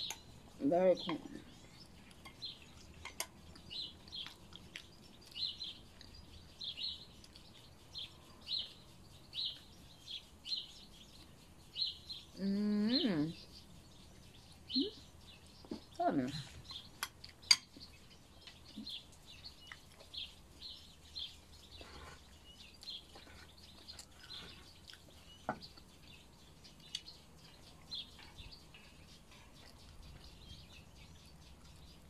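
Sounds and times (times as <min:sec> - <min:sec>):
small birds chirping: 0:00.0 - 0:32.0
chewing: 0:01.2 - 0:12.1, 0:13.4 - 0:32.0.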